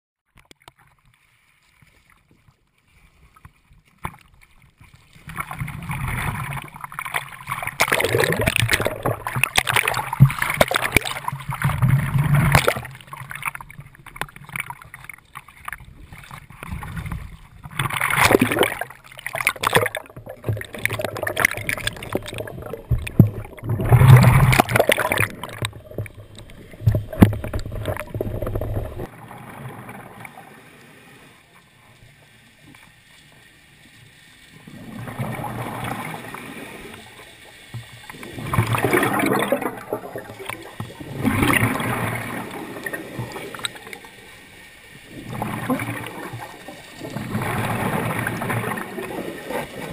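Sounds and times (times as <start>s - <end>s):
sea water sloshing and splashing: 0.4s - 30.8s, 31.5s - 49.9s.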